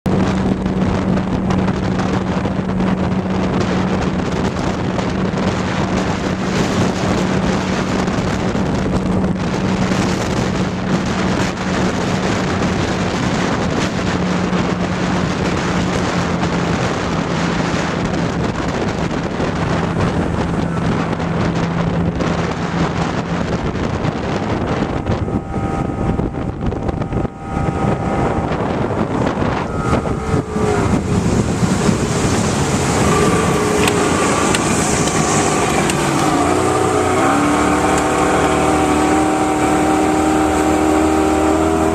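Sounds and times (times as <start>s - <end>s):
boat engine droning: 0.0s - 41.9s
wind noise on microphone: 0.0s - 41.9s
water rushing past hull: 0.1s - 41.9s.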